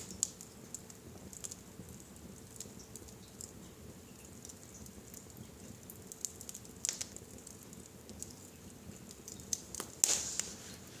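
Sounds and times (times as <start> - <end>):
sharp pops of burning wood: 0.0 - 10.6
wood fire crackling: 0.0 - 11.0.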